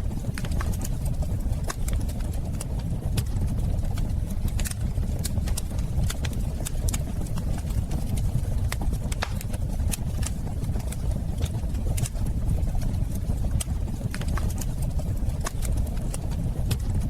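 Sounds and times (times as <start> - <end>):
flames rumbling: 0.0 - 17.0
wood fire crackling and popping: 0.0 - 17.0.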